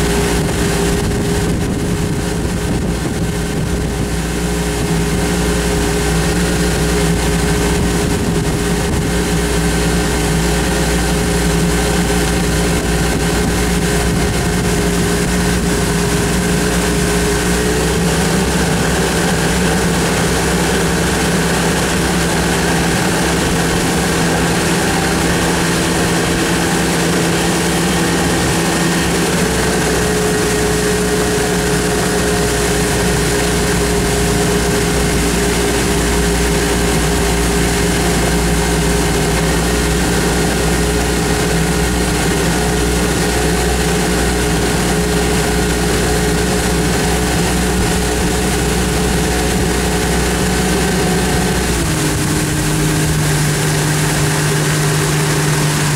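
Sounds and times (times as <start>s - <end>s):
boat engine running: 0.0s - 55.9s
hiss of wash and wind: 0.0s - 55.9s.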